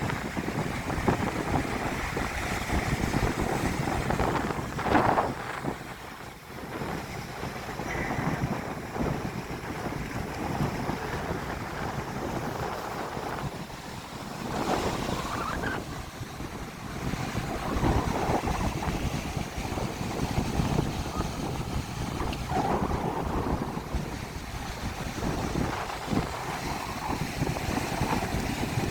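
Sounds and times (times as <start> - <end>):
surf breaking on beach: 0.0 - 28.9
wind buffeting microphone: 0.0 - 28.9.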